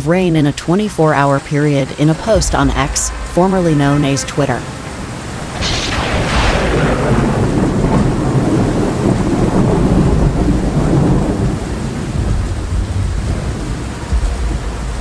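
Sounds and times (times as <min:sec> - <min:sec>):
rain falling: 0:00.0 - 0:15.0
thunderclap with rumble: 0:00.2 - 0:15.0.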